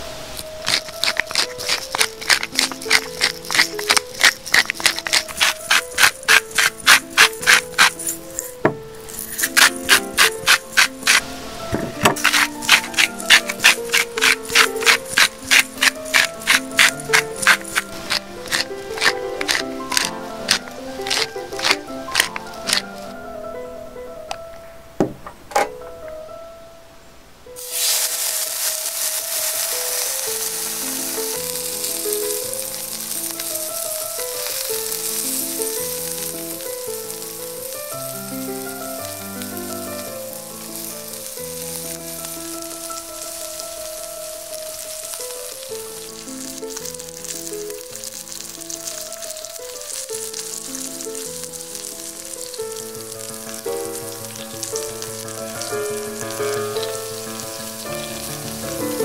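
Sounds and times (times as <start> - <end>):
steak sizzling in a skillet: 0.0 - 23.2, 27.6 - 59.0
background music: 0.0 - 59.0.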